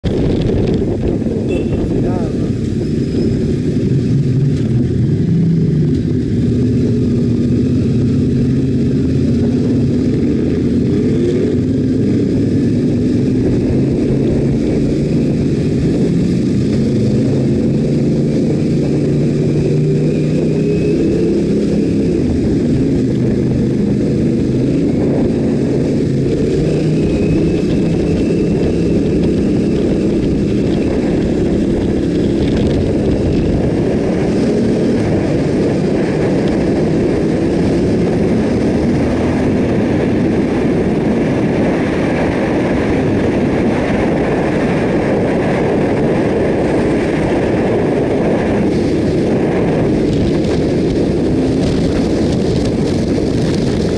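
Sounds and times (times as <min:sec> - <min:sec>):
motorcycle engine at low revs: 0:00.0 - 0:53.9.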